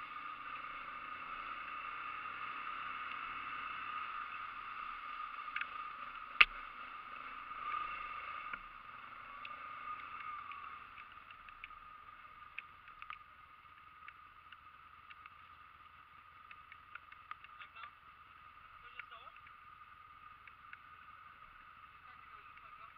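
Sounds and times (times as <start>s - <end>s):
engine droning: 0.0s - 22.9s
faint ticks: 2.7s - 22.9s.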